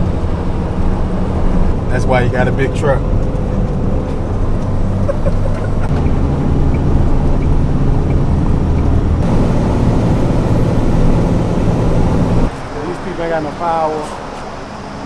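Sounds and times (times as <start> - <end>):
road and wind noise: 0.0 - 15.0
truck engine hum: 0.0 - 15.0.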